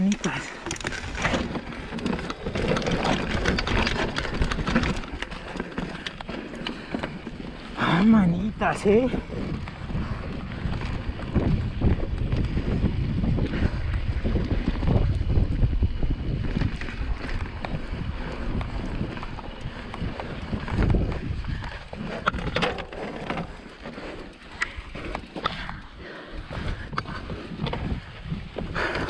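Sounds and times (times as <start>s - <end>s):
clicks and knocks of bike: 0.0s - 29.0s
tyres rumbling on rocks: 0.0s - 29.0s
wind buffeting microphone: 0.0s - 29.0s.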